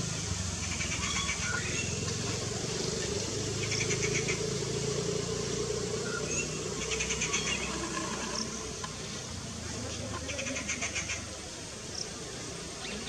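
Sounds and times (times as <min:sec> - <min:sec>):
distant motor traffic rumble: 0:00.0 - 0:13.0.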